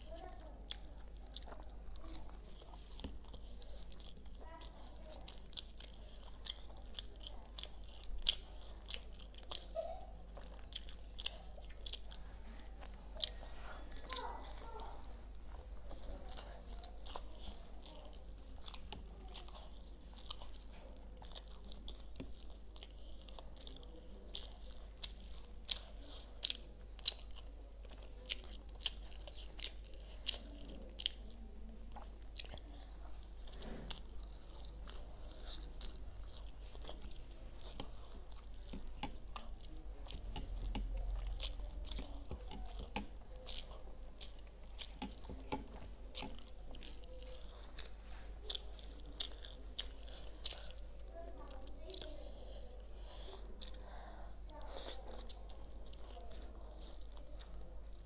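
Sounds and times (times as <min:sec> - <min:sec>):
person chewing with mouth clicks: 0:00.0 - 0:58.0.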